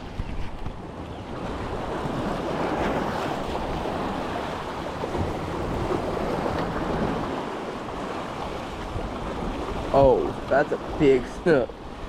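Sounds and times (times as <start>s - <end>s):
ocean surf washing: 0.0s - 12.0s
wind on microphone: 0.0s - 12.0s.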